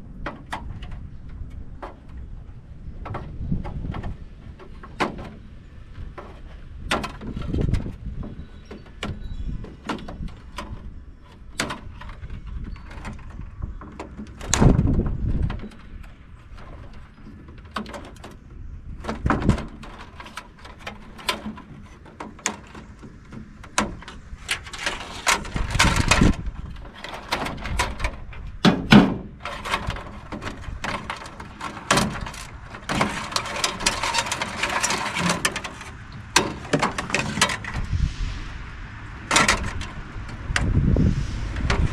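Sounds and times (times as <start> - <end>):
metal rattling and scraping: 0.0 - 41.9
metal clanking and knocking: 3.0 - 37.9, 39.2 - 40.8.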